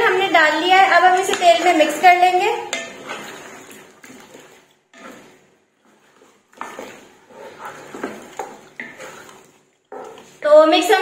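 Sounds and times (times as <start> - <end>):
spatula scraping pot: 0.0 - 11.0.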